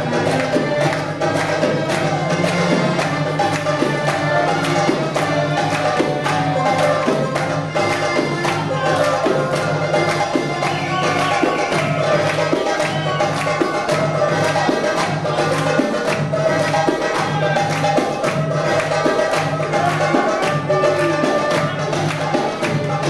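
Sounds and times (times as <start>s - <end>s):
hand drum beat: 0.0s - 23.0s.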